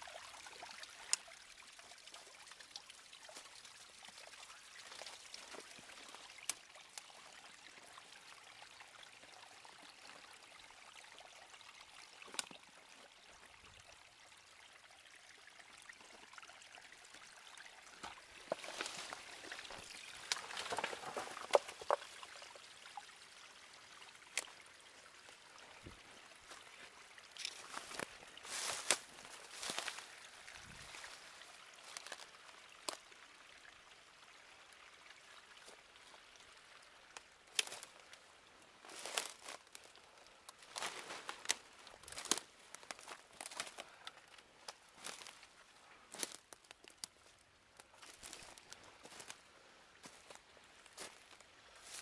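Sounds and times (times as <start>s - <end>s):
stream trickling over rocks: 0.0s - 52.0s.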